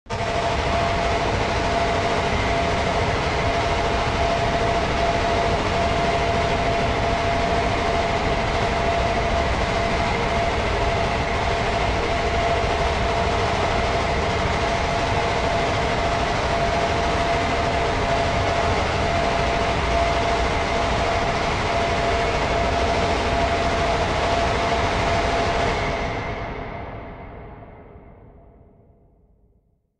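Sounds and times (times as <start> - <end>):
factory machinery drone: 0.1 - 27.9.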